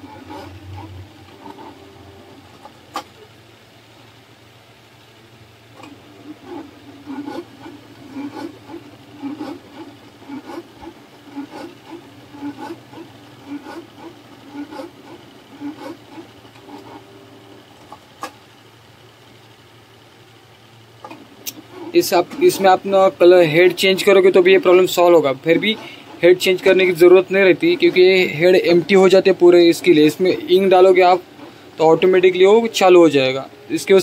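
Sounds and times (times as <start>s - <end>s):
printer carriage whirring: 0.0s - 4.1s, 5.7s - 34.0s.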